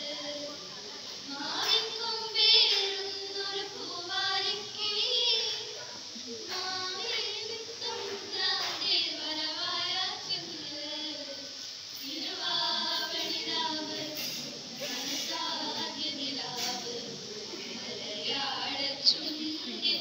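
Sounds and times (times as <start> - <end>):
girls singing into microphone: 0.0 - 20.0.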